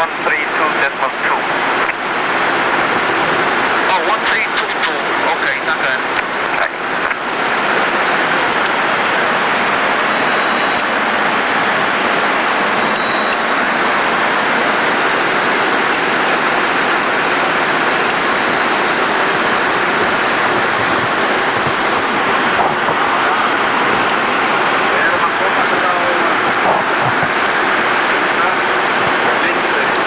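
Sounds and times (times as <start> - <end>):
cockpit air and engine noise: 0.0 - 30.0.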